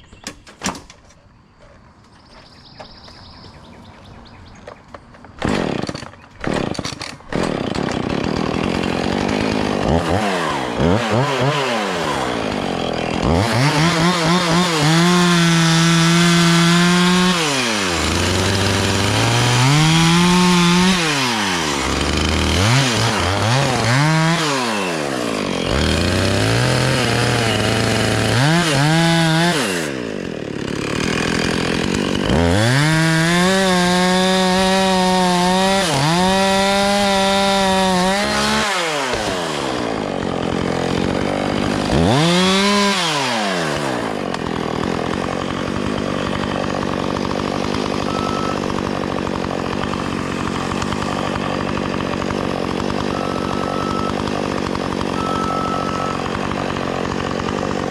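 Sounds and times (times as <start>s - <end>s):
chainsaw idling: 5.2s - 57.9s
chainsaw revving and cutting: 5.3s - 57.9s.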